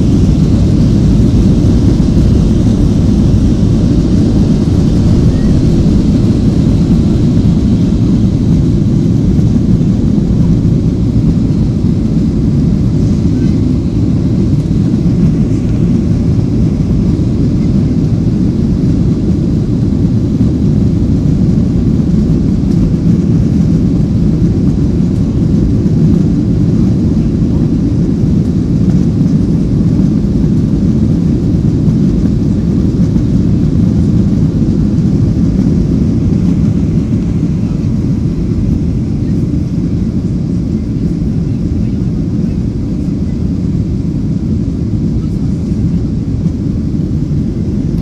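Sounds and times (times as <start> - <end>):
loud low vehicle engine drone: 0.0 - 48.0.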